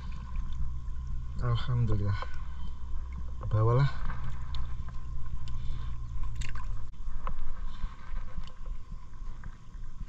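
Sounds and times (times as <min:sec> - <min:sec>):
continuous low rumble: 0:00.0 - 0:10.0
water sloshing and gurgling: 0:00.0 - 0:10.0.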